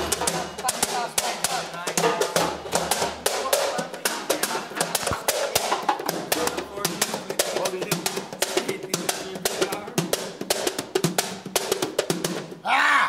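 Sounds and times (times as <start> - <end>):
palms slapping wooden stools: 0.0 - 12.4
djembe drumming: 0.0 - 12.6.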